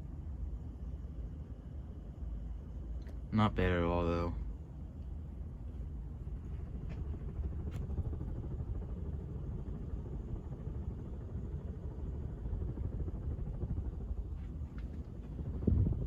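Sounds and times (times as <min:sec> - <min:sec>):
ceiling fan low rumble: 0:00.0 - 0:16.0.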